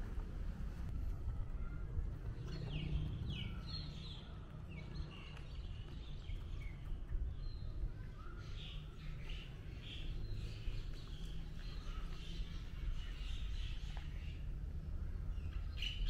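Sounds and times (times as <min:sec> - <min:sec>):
small birds chirping: 0:01.5 - 0:16.0.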